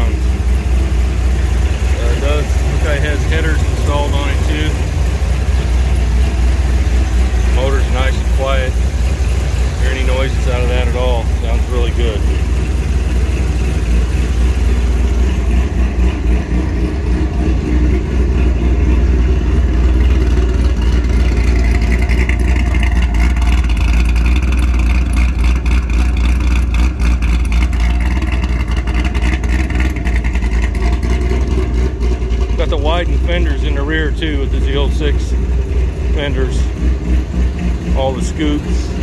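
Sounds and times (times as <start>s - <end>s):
car exhaust rumbling: 0.0s - 39.0s.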